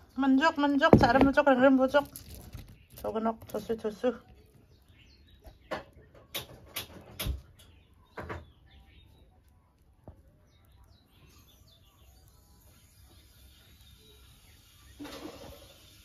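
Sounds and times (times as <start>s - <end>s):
faint bird chirps: 2.5s - 16.0s.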